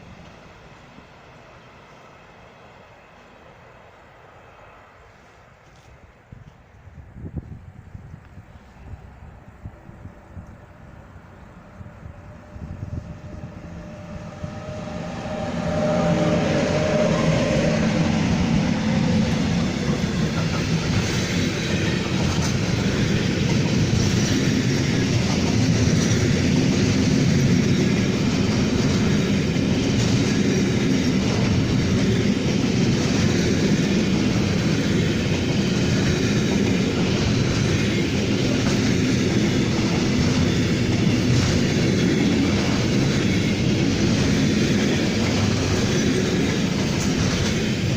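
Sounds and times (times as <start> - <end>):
train rumbling past: 0.0 - 47.9.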